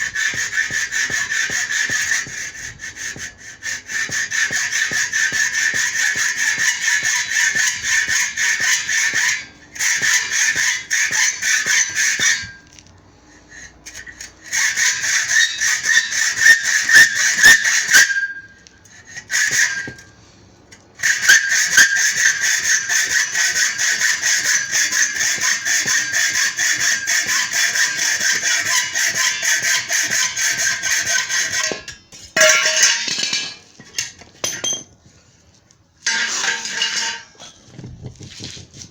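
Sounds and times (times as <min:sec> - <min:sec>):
rasping metal cutting: 0:00.0 - 0:12.6, 0:13.6 - 0:18.4, 0:19.1 - 0:20.1, 0:21.0 - 0:33.4, 0:36.1 - 0:37.3.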